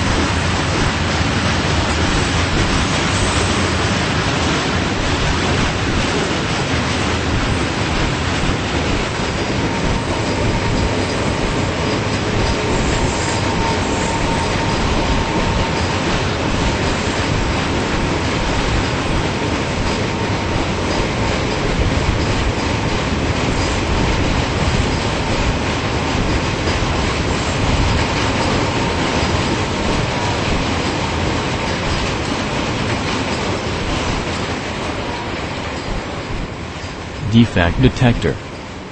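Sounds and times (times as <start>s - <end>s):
train wheels rumbling on rails: 0.0s - 37.2s.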